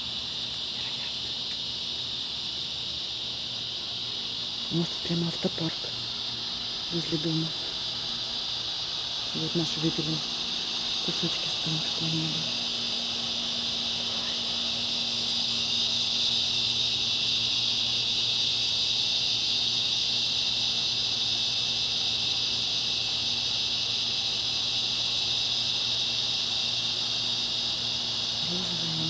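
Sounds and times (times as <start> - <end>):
cicadas shrilling: 0.0 - 29.0.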